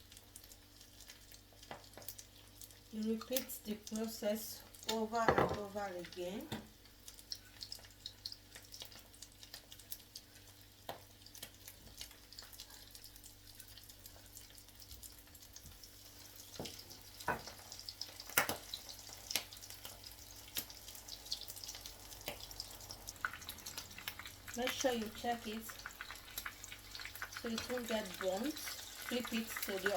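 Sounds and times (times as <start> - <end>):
food sizzling in hot oil: 0.0 - 29.9.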